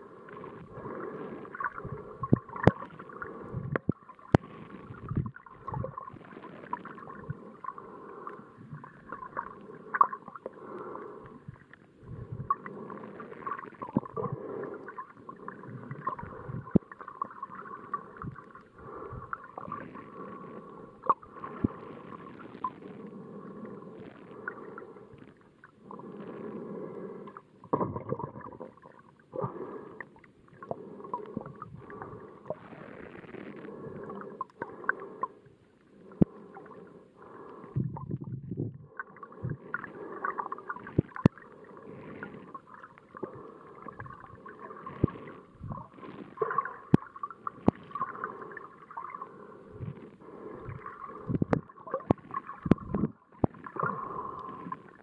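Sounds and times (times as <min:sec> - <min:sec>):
muffled underwater sloshing: 0:00.0 - 0:55.0.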